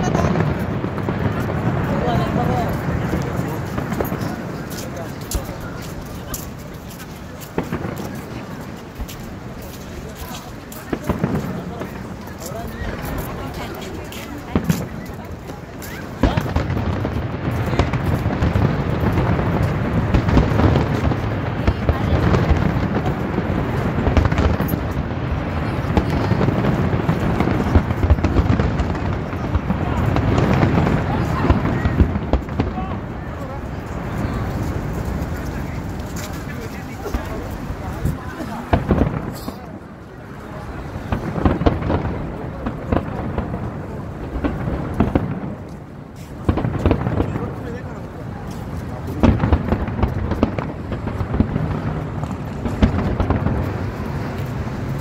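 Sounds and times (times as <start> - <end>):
fireworks booming: 0.0 - 55.0
fireworks crackling: 0.0 - 55.0.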